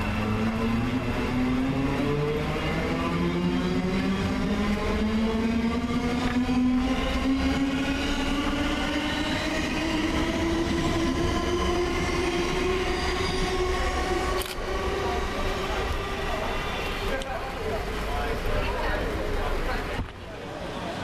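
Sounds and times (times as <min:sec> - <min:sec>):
electric train motors whining: 0:00.0 - 0:19.7
wheels rumbling on rails: 0:00.0 - 0:20.7.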